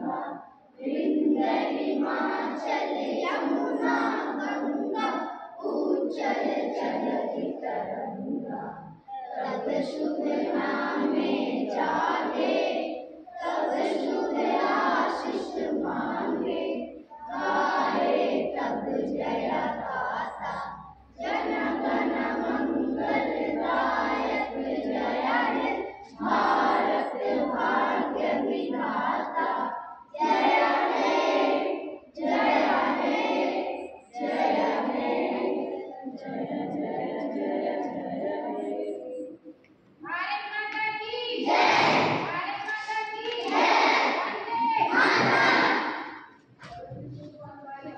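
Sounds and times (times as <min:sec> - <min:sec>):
children singing in unison: 0:00.0 - 0:47.9.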